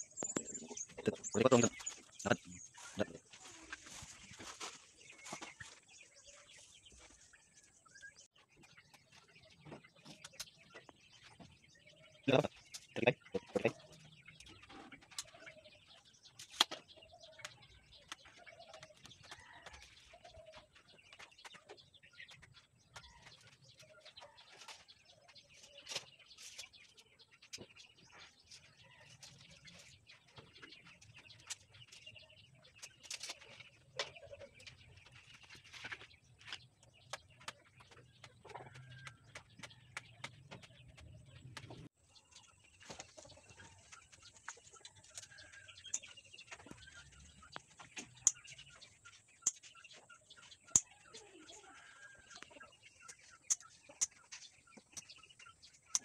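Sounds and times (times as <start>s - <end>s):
bird chirps: 0.0s - 56.0s.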